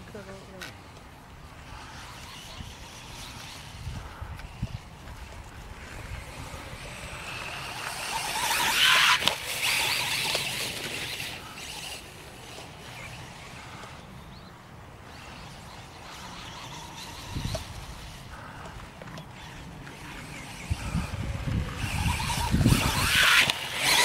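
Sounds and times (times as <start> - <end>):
electric rc motorcycle motor: 0.0 - 24.0.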